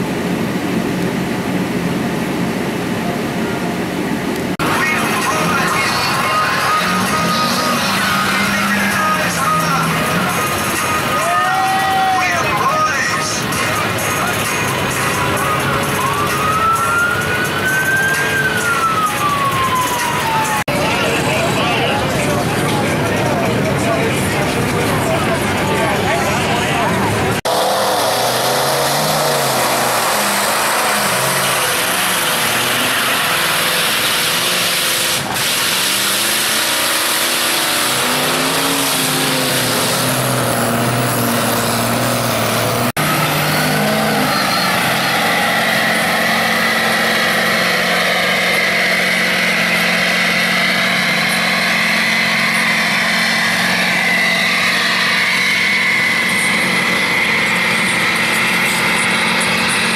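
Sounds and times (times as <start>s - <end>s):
truck engines revving: 0.0s - 59.9s.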